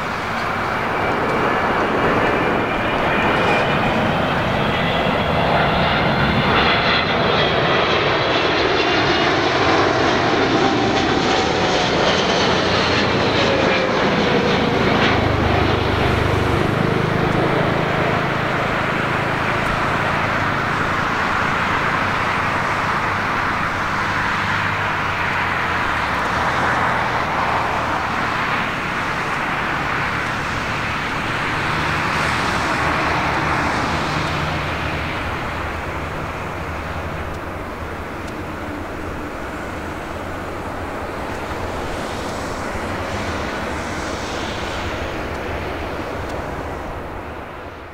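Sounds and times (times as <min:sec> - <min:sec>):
jet roar: 0:00.0 - 0:47.9
whining jet engine: 0:00.0 - 0:47.9.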